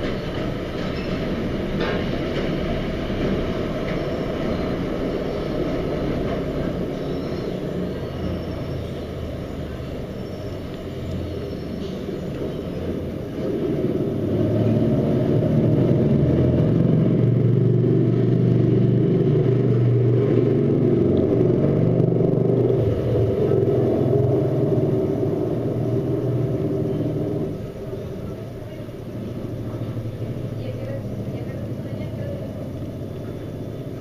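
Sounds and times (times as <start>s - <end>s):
passing vehicle rumble: 0.0s - 34.0s.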